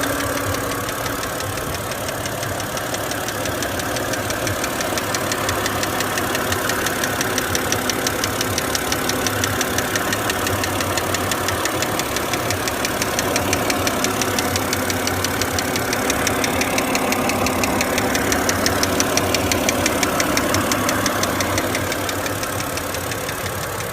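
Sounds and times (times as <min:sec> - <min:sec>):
car engine running: 0:00.0 - 0:23.9
rapid engine knocking tick: 0:00.0 - 0:23.9.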